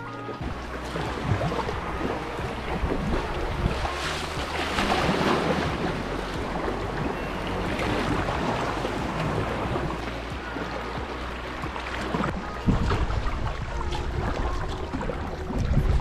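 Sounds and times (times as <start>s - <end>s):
water splashing against hull: 0.0s - 16.0s
wind on microphone: 0.0s - 16.0s.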